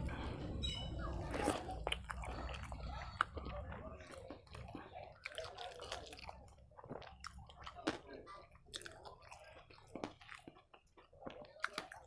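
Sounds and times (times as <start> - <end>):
wet chewing and smacking: 0.0 - 12.0.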